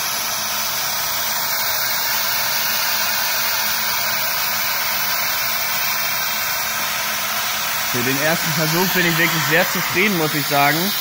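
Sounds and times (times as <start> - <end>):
workshop machinery rushing air: 0.0 - 11.0.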